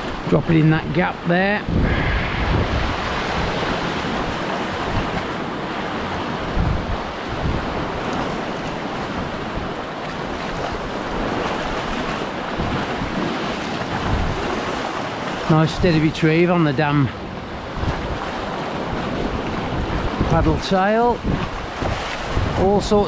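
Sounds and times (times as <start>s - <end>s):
sea waves washing in: 0.0s - 23.0s
wind buffeting microphone: 0.0s - 23.0s.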